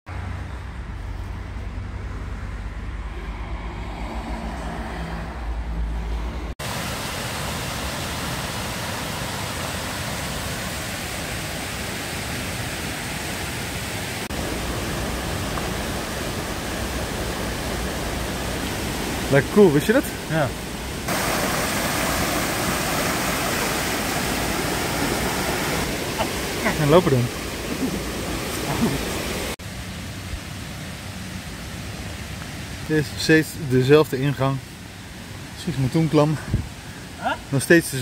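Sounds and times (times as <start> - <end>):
stream rushing over rocks: 6.6 - 38.0.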